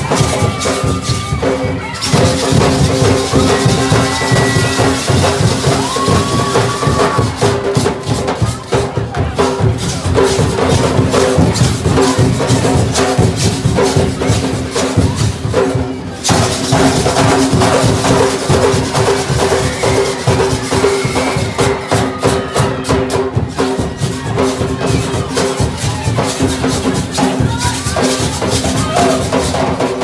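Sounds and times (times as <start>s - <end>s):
hand drums playing: 0.0s - 30.0s.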